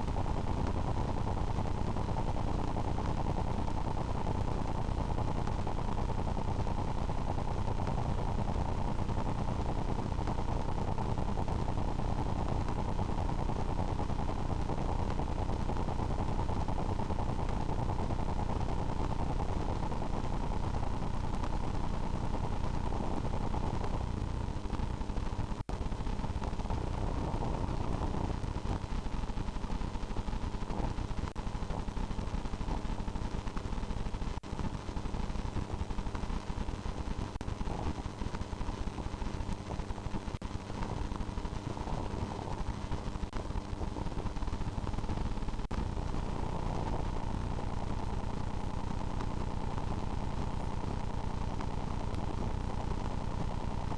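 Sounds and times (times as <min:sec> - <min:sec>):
low rumbling with crackle: 0:00.0 - 0:53.9.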